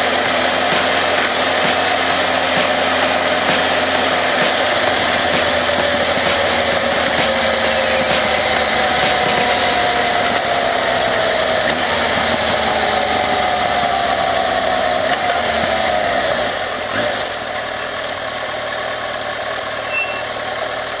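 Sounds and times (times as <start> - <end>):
motorcycle engine decelerating: 0.0 - 21.0.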